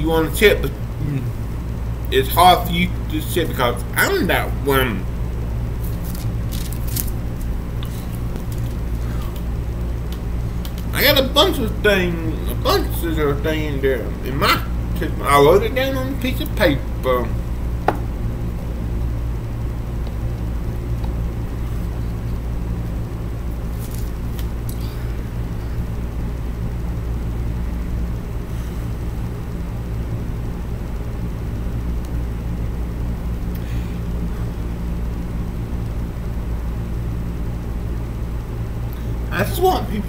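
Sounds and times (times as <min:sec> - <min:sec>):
room noise hum and rumble: 0:00.0 - 0:40.0.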